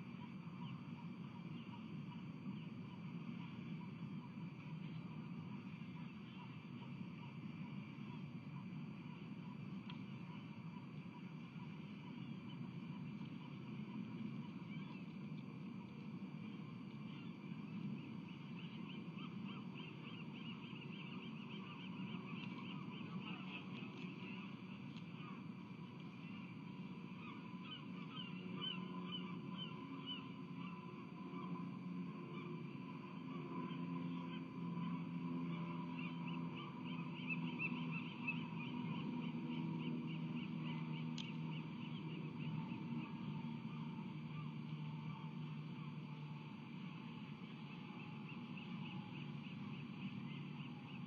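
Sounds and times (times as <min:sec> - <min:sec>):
low hum: 0:00.0 - 0:51.0
osprey calling: 0:00.1 - 0:51.0.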